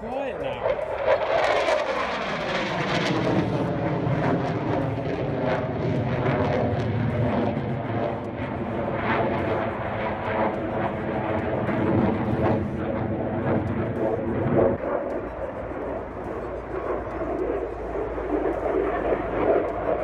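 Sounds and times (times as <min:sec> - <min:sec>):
fighter jet engine roar: 0:00.0 - 0:20.0.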